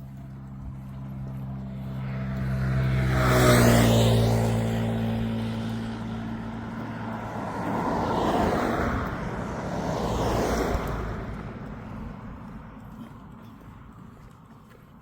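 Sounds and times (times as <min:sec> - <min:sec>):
motor vehicles passing by: 0:00.0 - 0:15.0.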